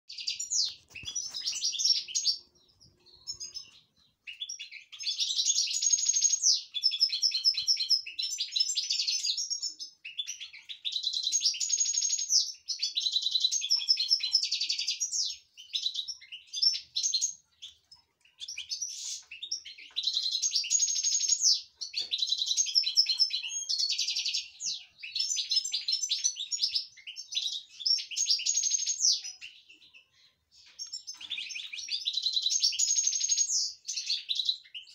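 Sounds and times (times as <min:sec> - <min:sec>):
goldfinch singing trills: 0:00.1 - 0:34.9.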